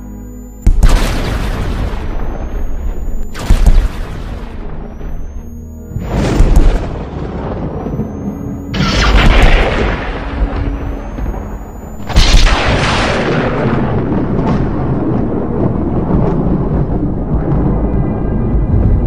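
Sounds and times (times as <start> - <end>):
deep boom with low rumble: 0.6 - 19.0.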